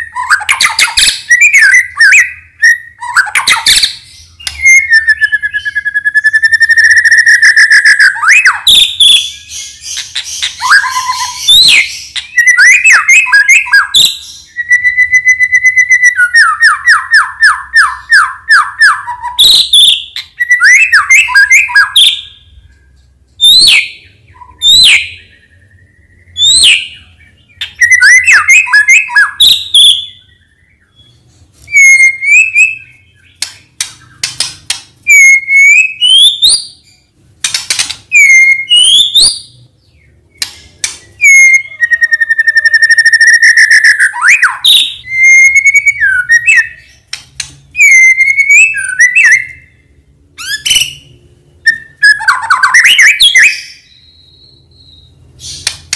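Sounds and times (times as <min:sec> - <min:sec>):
songbird singing whistles: 0:00.0 - 0:55.9.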